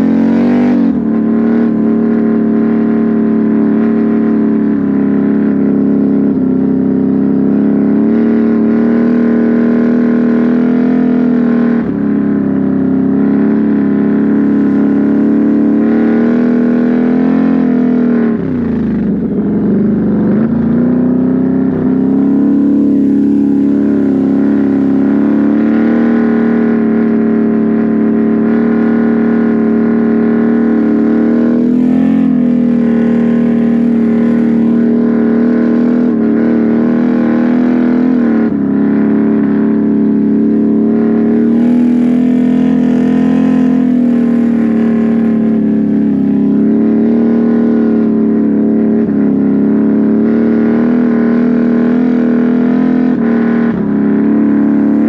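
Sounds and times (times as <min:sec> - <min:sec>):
atv churning through mud: 0:00.0 - 0:55.0
atv engine at high revs: 0:00.0 - 0:55.0.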